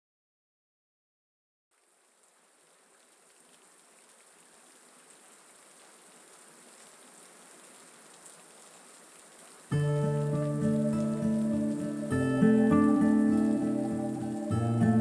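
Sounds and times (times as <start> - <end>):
steady rain: 1.7 - 15.0.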